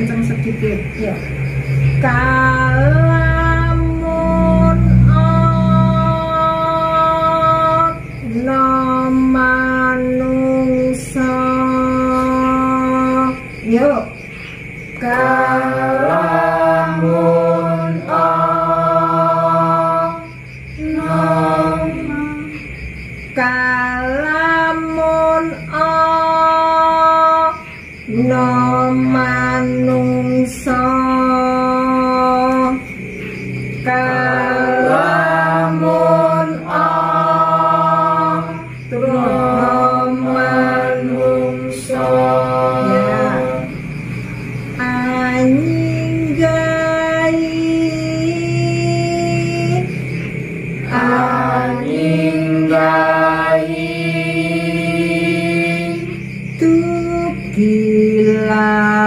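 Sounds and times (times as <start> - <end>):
group singing in unison: 2.0 - 13.9, 15.0 - 22.8, 23.4 - 32.8, 33.7 - 59.0.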